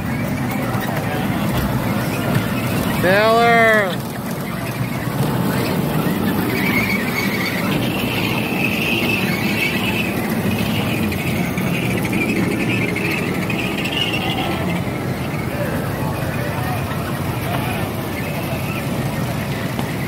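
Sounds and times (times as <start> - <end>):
high wavering squeal: 0.0 - 19.6
small train rumbling on track: 0.0 - 20.0.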